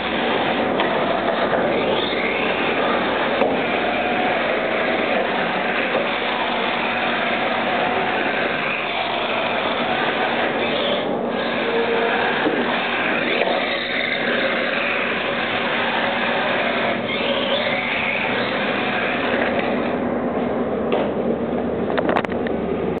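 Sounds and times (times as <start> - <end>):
rc car electric motor whirring: 0.0 - 19.9.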